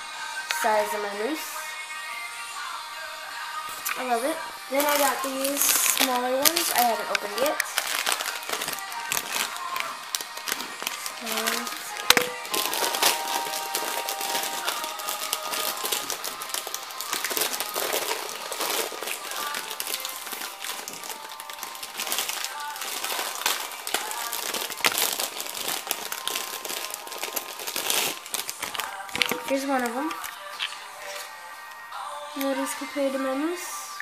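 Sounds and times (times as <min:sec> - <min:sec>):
plastic packaging crinkling: 0:03.8 - 0:31.4.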